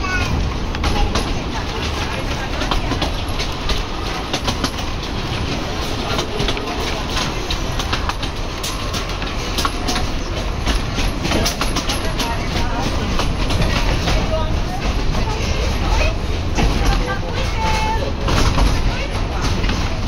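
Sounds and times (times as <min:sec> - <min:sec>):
train rumbling on track: 0:00.0 - 0:20.0.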